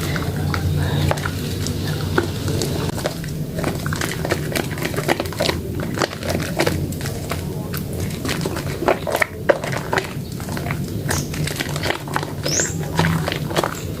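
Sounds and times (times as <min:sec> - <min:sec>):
wet soap crackling: 0:00.0 - 0:14.0.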